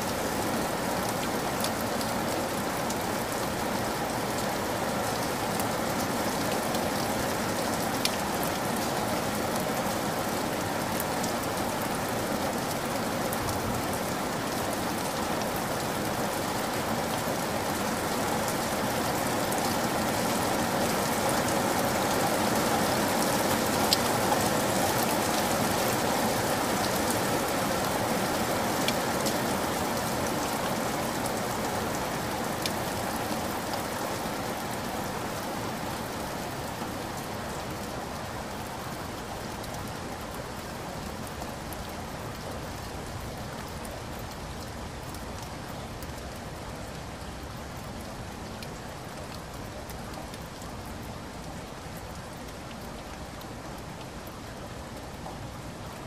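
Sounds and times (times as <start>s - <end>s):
stream babbling over gravel: 0.0s - 56.0s.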